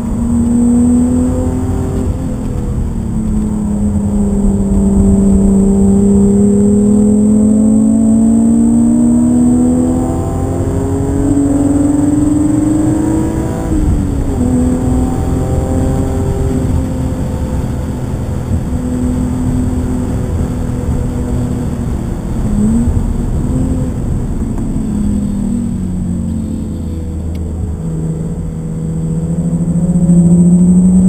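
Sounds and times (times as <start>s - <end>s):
car engine accelerating: 0.0s - 31.0s
road and tyre noise: 0.0s - 31.0s.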